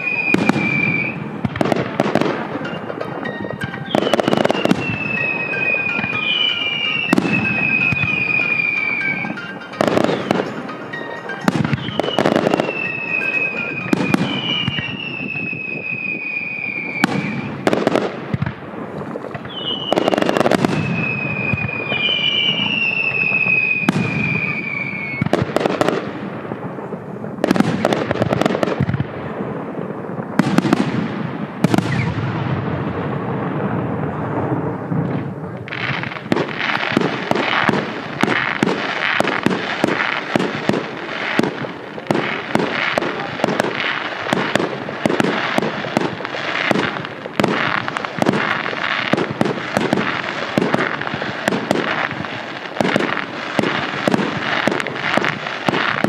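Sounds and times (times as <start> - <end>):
fireworks bangs with echoes: 0.0 - 56.0
rapid firework crackling: 0.0 - 56.0.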